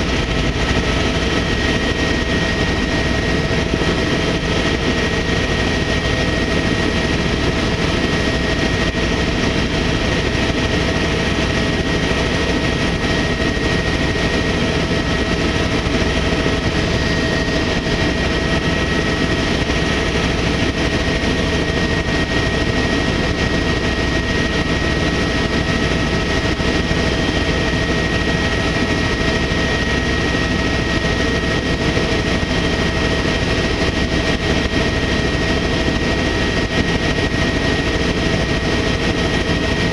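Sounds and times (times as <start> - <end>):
helicopter engine and rotors drone: 0.0 - 39.9.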